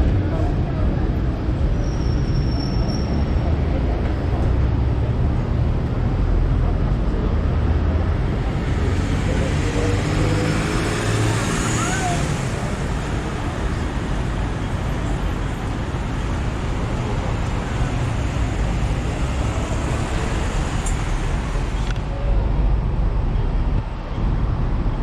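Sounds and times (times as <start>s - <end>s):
street traffic: 0.0s - 25.0s
tram rumbling on rails: 0.0s - 25.0s.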